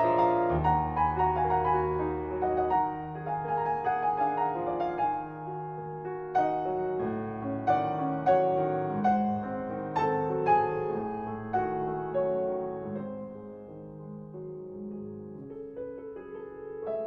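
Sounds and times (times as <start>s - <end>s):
slow classical piano piece: 0.0s - 17.0s.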